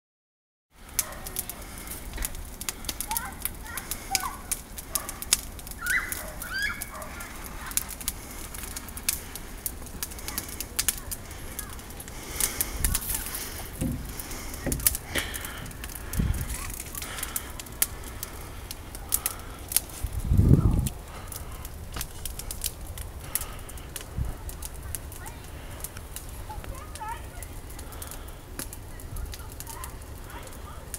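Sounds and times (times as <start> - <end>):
fire crackling and popping: 0.8 - 30.9.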